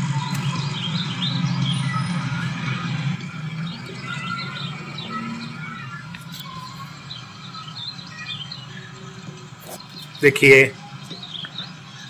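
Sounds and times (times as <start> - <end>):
birds twittering: 0.0 - 12.0.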